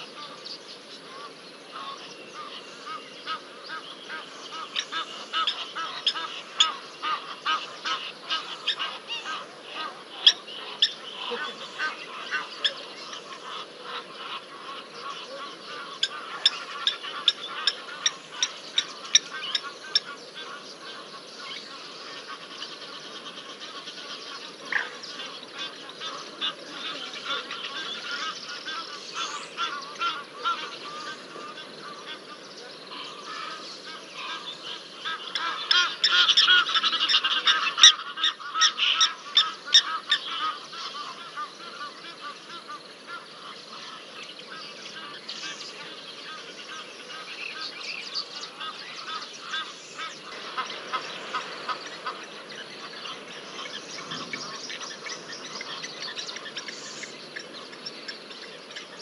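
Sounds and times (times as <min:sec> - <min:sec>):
geese honking: 0:01.0 - 0:59.0.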